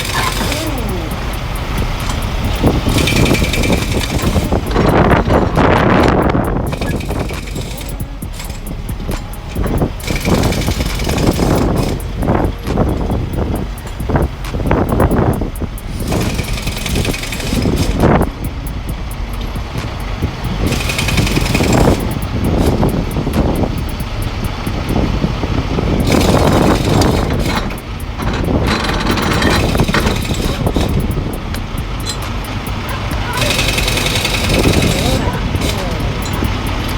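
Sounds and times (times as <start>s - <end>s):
heavy vehicle engine rumbling: 0.0s - 36.9s.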